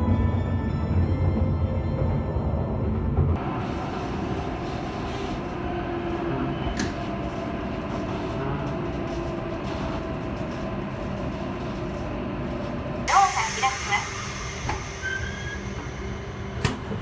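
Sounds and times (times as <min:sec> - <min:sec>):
train running noise: 0:00.0 - 0:17.0.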